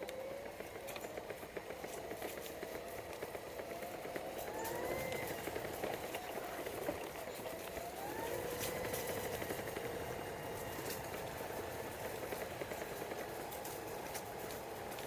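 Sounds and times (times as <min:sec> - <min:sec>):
faint clicks: 0:00.0 - 0:15.0
motor vehicle passing with whine: 0:00.0 - 0:15.0.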